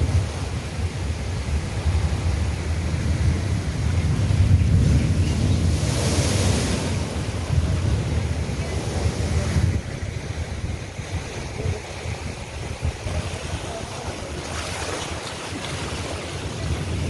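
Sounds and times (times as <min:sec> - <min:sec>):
rough sea surf rushing: 0:00.0 - 0:17.0
stormy wind buffeting microphone: 0:00.0 - 0:17.0.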